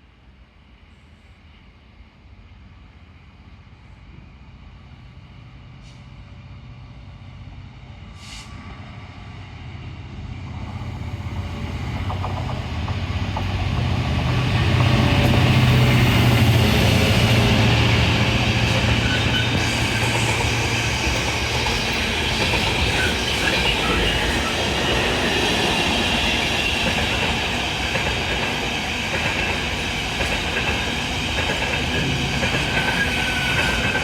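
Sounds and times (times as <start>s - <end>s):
train rail noise: 0.0s - 34.0s
diesel train engine hum: 1.8s - 34.0s.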